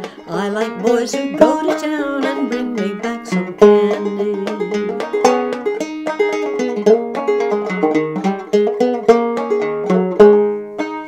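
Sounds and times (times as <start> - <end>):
banjo picked notes: 0.0 - 11.0.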